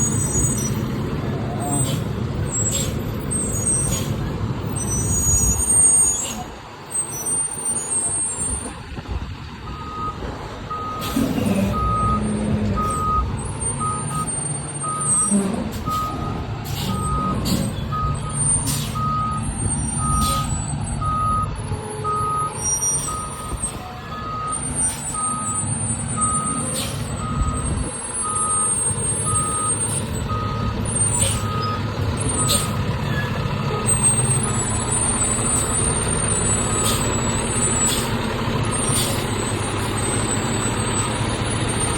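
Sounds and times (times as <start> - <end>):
diesel engine running: 0.0 - 41.9
truck backup alarm beeping: 0.0 - 41.9.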